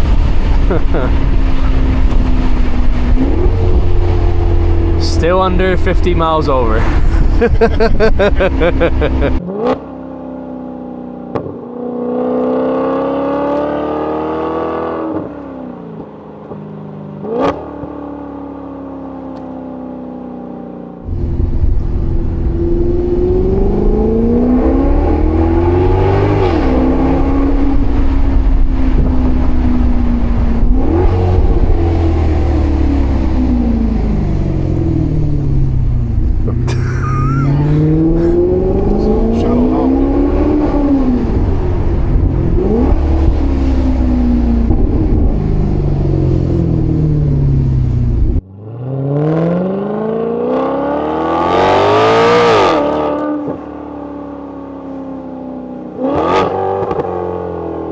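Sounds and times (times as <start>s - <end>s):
car engine accelerating through gears: 0.0s - 15.8s, 17.2s - 18.6s, 21.0s - 53.8s, 55.9s - 57.8s.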